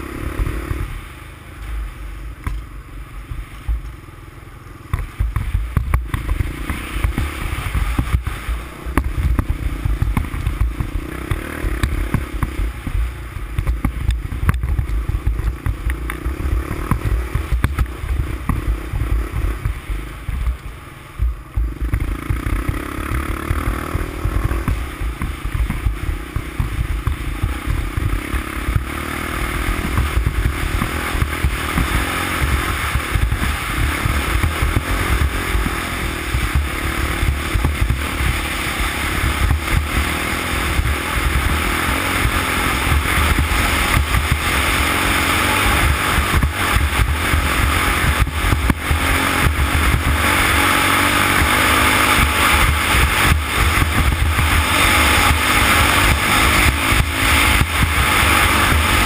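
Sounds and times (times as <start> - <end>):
atv engine rumbling: 0.0 - 59.0
vehicle rattling over rough ground: 0.0 - 59.0.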